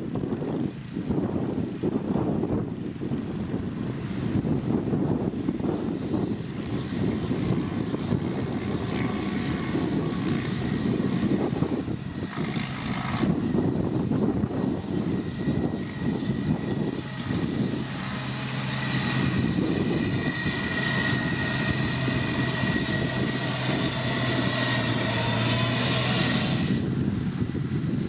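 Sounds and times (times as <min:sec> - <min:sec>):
diesel engine drone: 0:00.0 - 0:28.0
high-pitched machine whine: 0:00.2 - 0:28.0.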